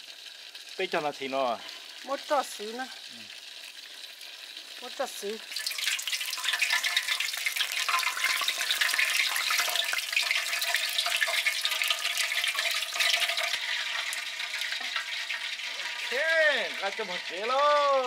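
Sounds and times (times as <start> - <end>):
food frying in hot oil: 0.0 - 18.0.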